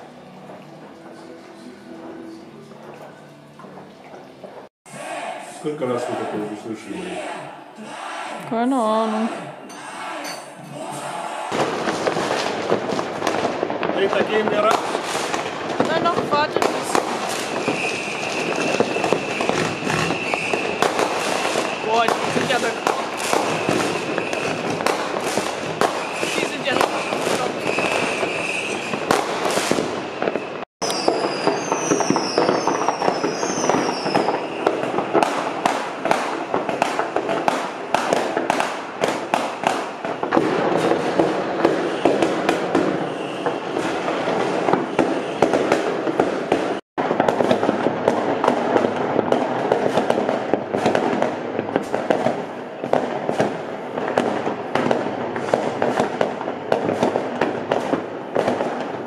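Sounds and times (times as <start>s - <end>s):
firecrackers crackling and banging: 0.0s - 5.1s, 9.4s - 59.0s
whistling fireworks: 9.4s - 59.0s.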